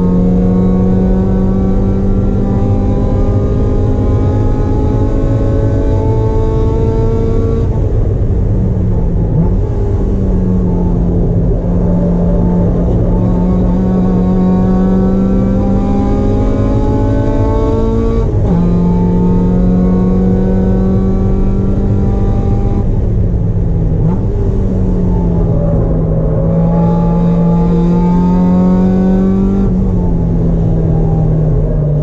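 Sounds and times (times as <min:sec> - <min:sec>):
race car engine at full throttle: 0:00.0 - 0:32.0.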